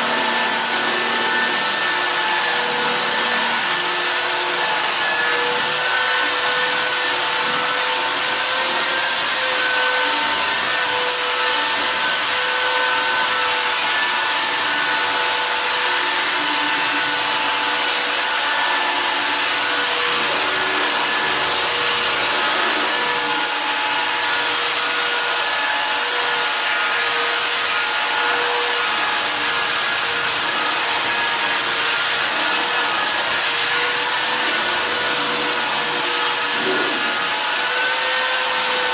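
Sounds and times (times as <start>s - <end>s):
electric sander on wooden floor: 0.0s - 38.9s.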